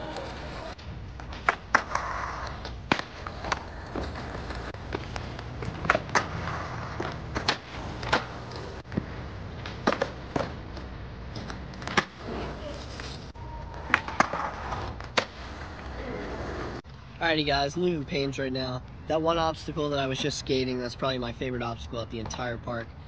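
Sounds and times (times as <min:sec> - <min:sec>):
skateboard wheels rolling on concrete: 0:00.0 - 0:23.0.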